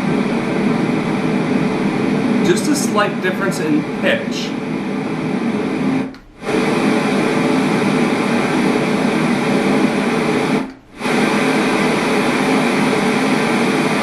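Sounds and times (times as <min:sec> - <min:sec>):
electronic white noise: 0:00.0 - 0:14.0.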